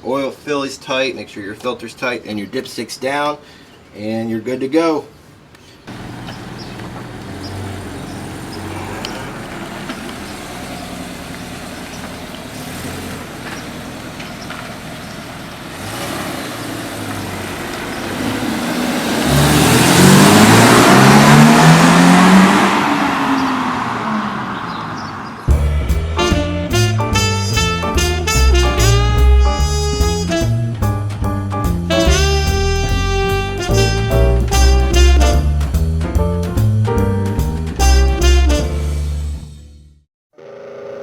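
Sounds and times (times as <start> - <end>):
car engine accelerating: 5.9 - 39.6.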